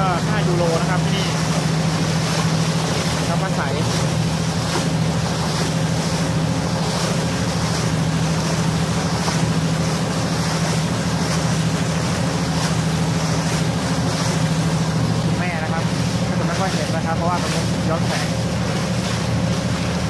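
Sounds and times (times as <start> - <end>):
boat engine humming: 0.0 - 20.0
water rushing from wake: 0.0 - 20.0
wind: 0.0 - 20.0.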